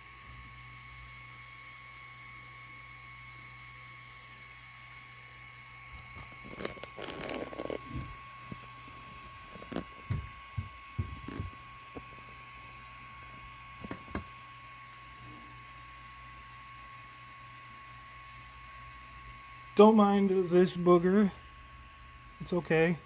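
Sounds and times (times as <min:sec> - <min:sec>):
three d printer humming and whining: 0:00.0 - 0:23.0.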